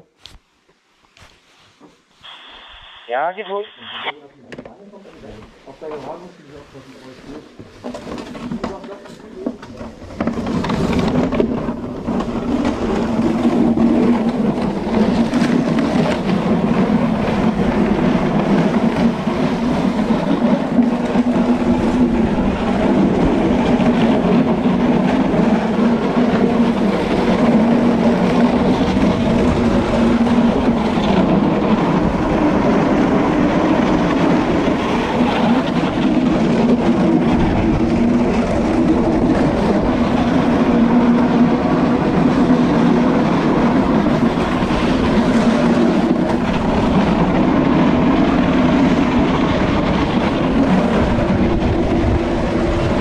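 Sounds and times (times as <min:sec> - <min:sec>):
sled runners scraping on ice: 0:05.9 - 0:49.3.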